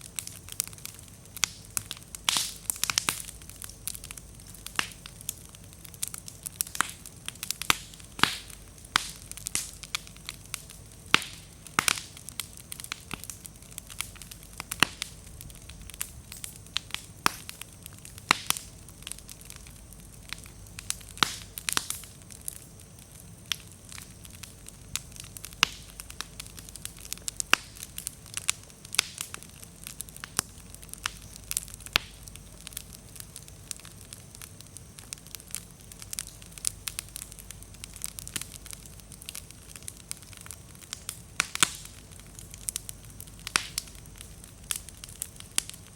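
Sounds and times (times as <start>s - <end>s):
bonfire popping and snapping: 0.0s - 45.9s
low rushing of flame: 0.0s - 45.9s.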